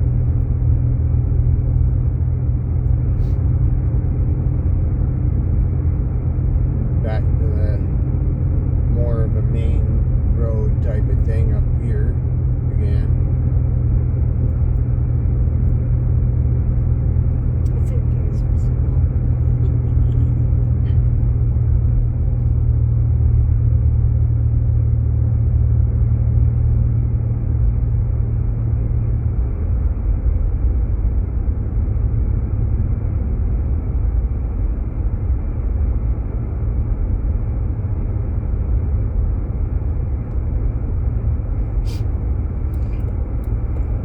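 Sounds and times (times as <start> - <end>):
car engine drone: 0.0 - 44.0
road rumble inside car: 0.0 - 44.0.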